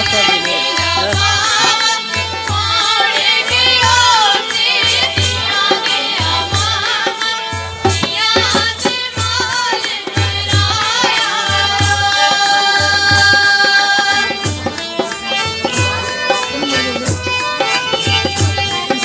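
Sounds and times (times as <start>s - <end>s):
two women singing: 0.0s - 19.0s.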